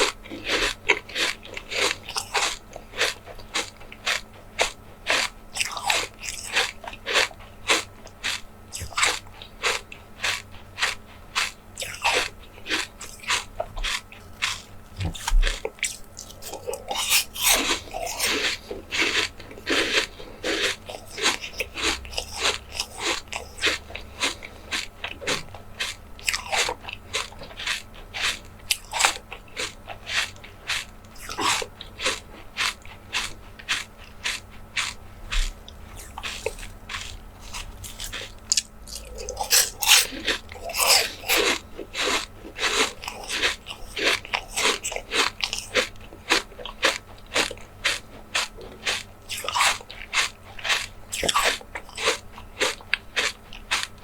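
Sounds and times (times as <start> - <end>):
crisp biting and chewing: 0.0 - 54.0.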